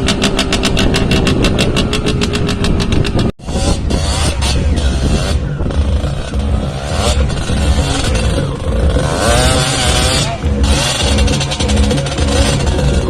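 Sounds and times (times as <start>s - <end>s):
racing engines revving: 0.0s - 13.0s.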